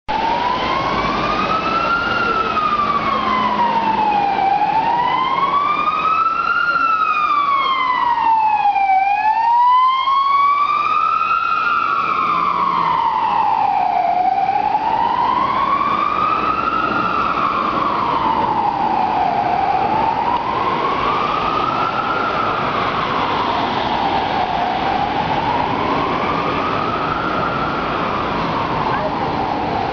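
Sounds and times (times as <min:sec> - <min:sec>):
city traffic noise: 0:00.1 - 0:29.9
police siren wailing: 0:00.1 - 0:29.9.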